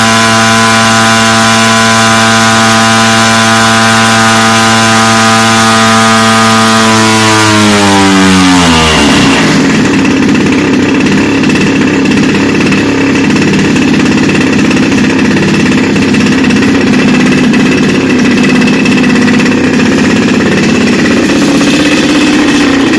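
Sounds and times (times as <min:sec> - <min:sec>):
propeller engine running: 0:00.0 - 0:22.9.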